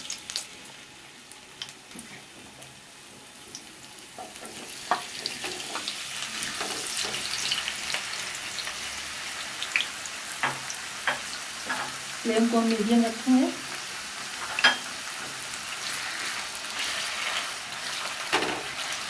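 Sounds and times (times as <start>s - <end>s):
potatoes sizzling in hot oil: 0.0s - 19.0s.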